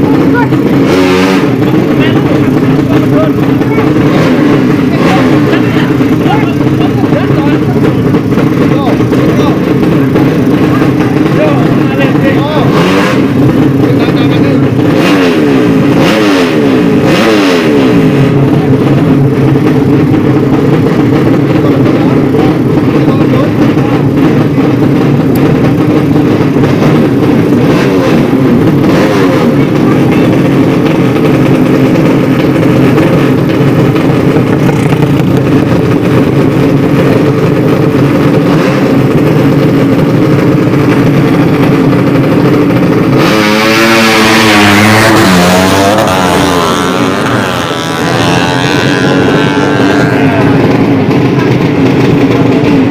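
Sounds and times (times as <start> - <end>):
racing motorcycle engines revving: 0.0 - 52.9.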